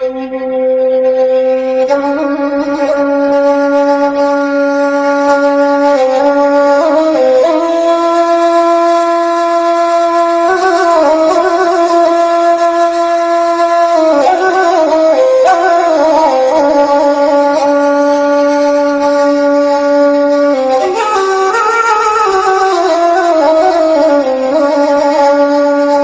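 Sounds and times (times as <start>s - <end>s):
woodwind slow melody: 0.0s - 26.0s.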